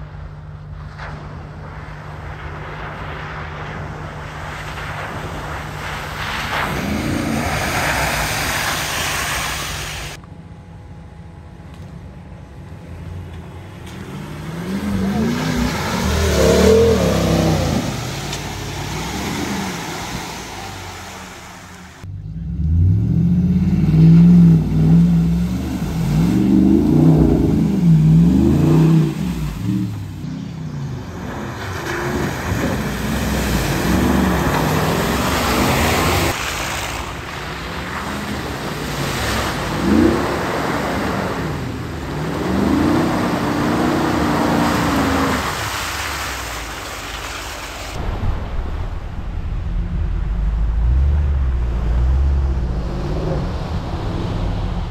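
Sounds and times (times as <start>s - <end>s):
water and mud splashing: 0.0s - 10.2s, 12.8s - 54.9s
truck engines revving: 0.0s - 54.9s.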